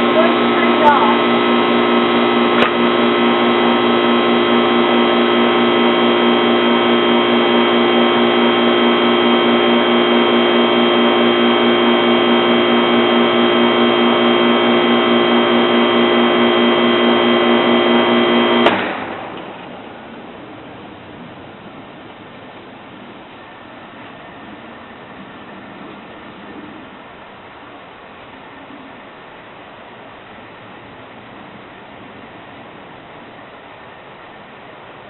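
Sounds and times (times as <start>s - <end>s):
heat pump compressor and fan hum: 0.0s - 35.0s.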